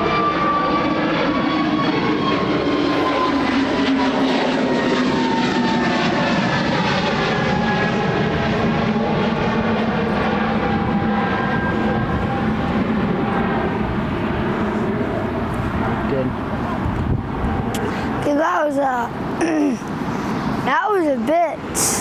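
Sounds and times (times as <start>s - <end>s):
jet engine whine falling in pitch: 0.0s - 18.3s
jet airliner roar: 0.0s - 22.0s.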